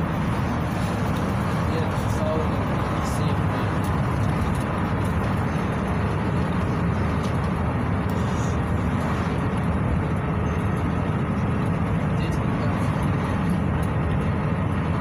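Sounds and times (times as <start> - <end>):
minibus engine running: 0.0 - 15.0
tyre and road rumble: 0.0 - 15.0.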